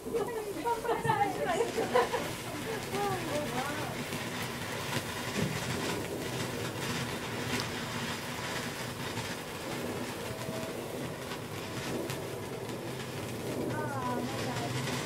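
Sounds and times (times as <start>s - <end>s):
firework sparks hissing and crackling: 0.0s - 15.0s.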